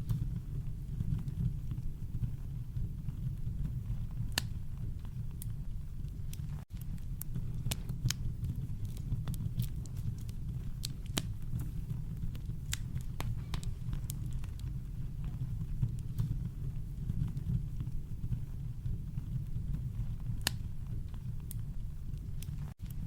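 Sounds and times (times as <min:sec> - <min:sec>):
campfire wood popping: 0:00.0 - 0:23.0
deep fire rumble: 0:00.0 - 0:23.0.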